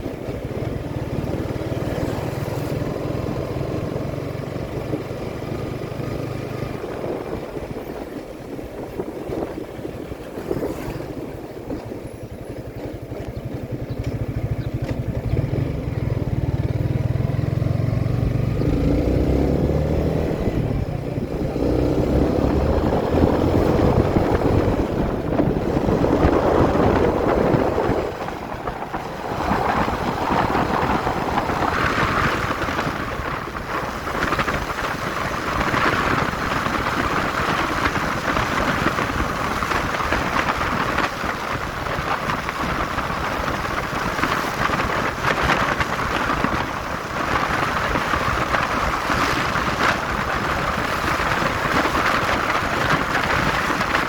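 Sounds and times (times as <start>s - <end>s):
motorcycle engine: 0.0s - 54.0s
wind rushing over microphone: 0.0s - 54.0s.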